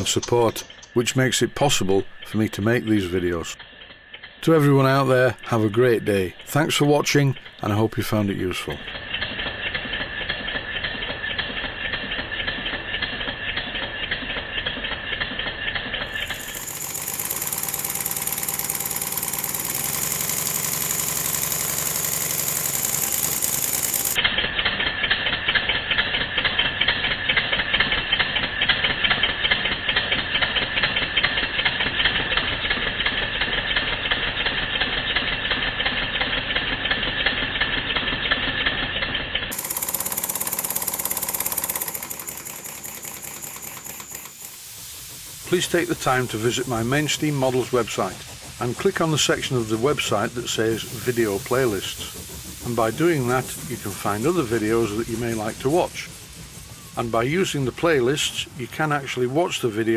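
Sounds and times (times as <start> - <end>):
model steam engine chuffing: 0.0 - 59.9.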